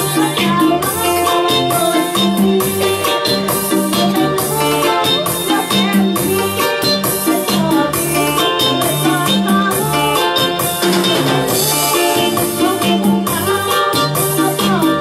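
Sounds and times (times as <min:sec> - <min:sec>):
upbeat dance music: 0:00.0 - 0:15.0.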